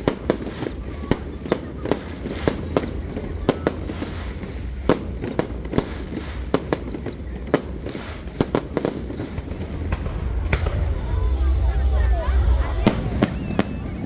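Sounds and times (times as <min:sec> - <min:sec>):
fireworks bangs and pops: 0:00.0 - 0:11.1, 0:12.8 - 0:14.0.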